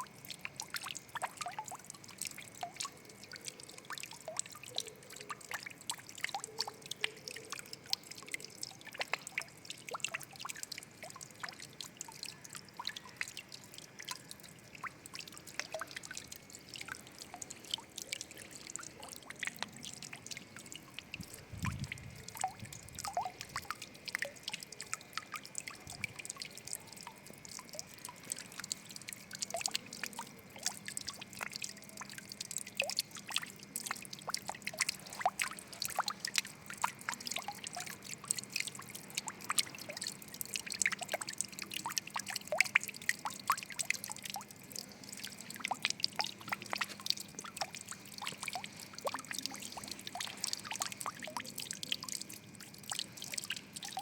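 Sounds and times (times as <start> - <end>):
water trickling and dripping: 0.0 - 54.0.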